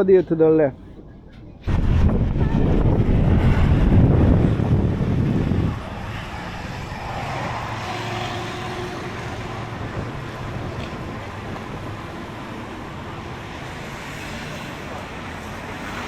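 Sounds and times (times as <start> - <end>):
road traffic: 0.0 - 16.0
vehicle passing: 1.7 - 16.0.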